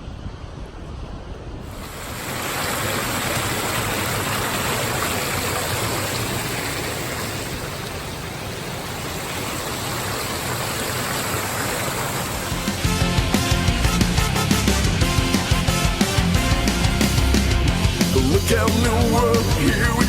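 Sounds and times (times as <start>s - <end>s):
sea surf washing ashore: 1.6s - 20.0s.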